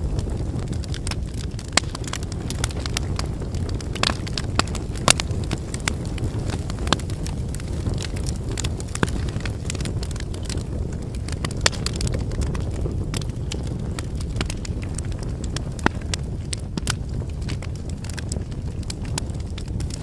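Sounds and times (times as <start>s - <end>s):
firewood crackling and popping: 0.0s - 20.0s
low rush of flame: 0.0s - 20.0s.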